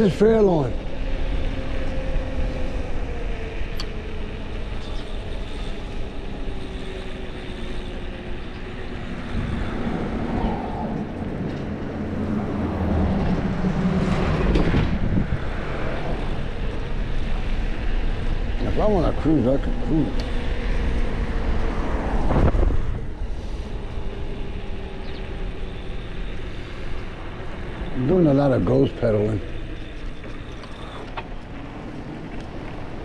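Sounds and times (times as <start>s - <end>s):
steady droning tone: 0.0s - 33.0s
wind rumbling on microphone: 0.7s - 28.2s.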